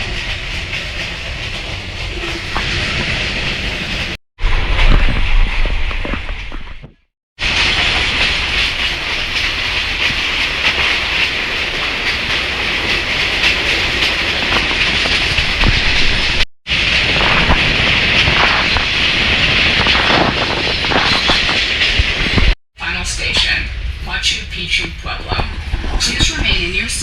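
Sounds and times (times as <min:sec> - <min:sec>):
train rolling on track: 0:00.0 - 0:27.0.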